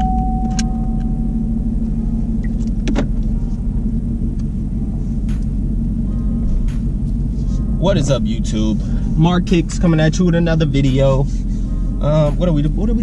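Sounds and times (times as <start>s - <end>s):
steady high tone: 0.0s - 2.6s, 3.2s - 13.0s
car engine idling: 0.0s - 13.0s.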